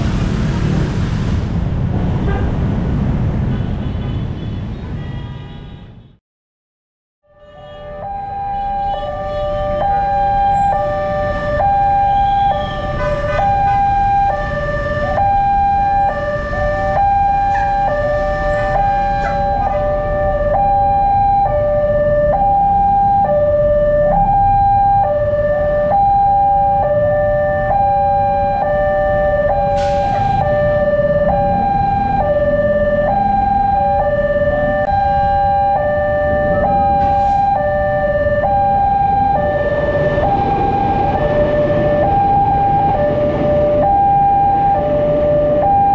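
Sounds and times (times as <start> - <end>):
low road traffic rumble: 0.0 - 6.0, 7.8 - 45.9
two-tone crossing siren: 7.2 - 45.9.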